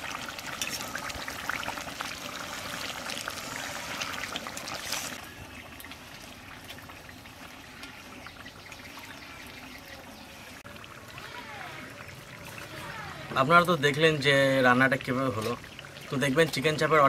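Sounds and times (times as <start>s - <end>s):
gravy bubbling and popping: 0.0s - 17.0s.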